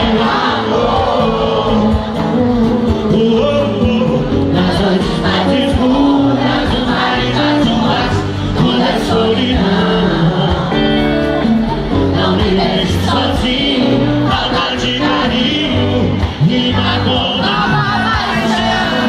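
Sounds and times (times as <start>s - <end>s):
male duo singing: 0.0s - 11.1s, 12.1s - 19.0s
amplified band with bass line: 0.0s - 19.0s.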